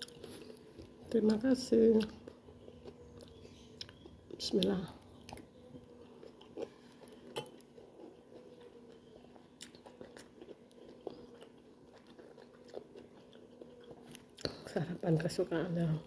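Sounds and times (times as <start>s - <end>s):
close-up chewing: 0.0s - 15.0s
faint steady hum: 0.0s - 16.0s.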